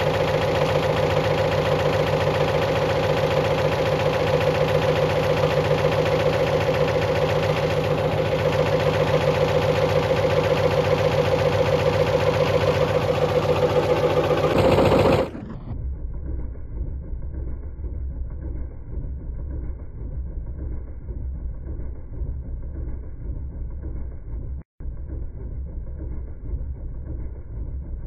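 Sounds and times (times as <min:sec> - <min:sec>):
washing machine drone: 0:00.0 - 0:28.0.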